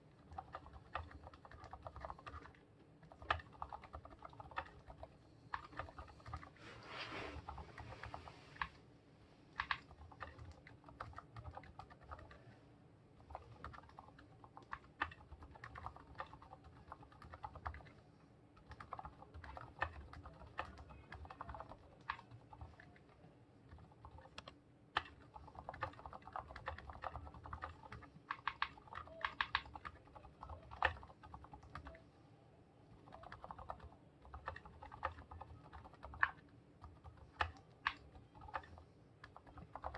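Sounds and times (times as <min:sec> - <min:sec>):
quiet mechanical keyboard typing: 0:00.0 - 0:06.6, 0:07.4 - 0:08.8, 0:09.5 - 0:12.6, 0:13.2 - 0:32.1, 0:32.9 - 0:39.9.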